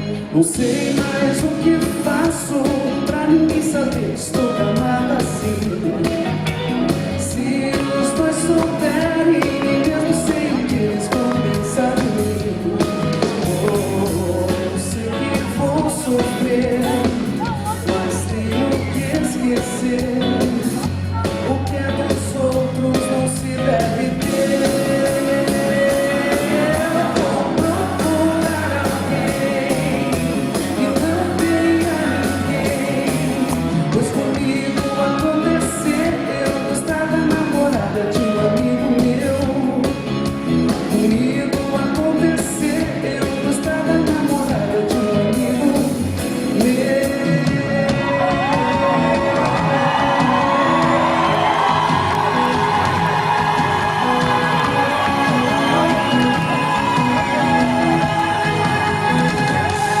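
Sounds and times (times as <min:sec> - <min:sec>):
live band music: 0:00.0 - 1:00.0
person singing: 0:00.0 - 1:00.0.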